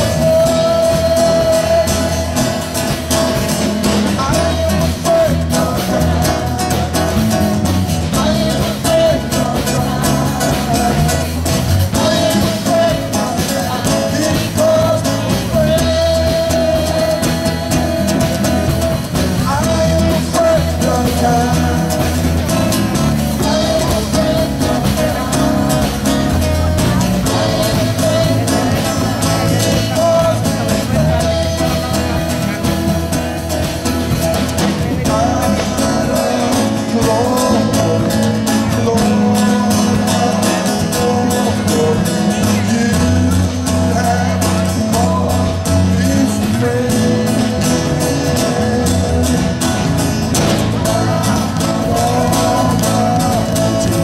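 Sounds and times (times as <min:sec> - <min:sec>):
band with drums: 0:00.0 - 0:54.0.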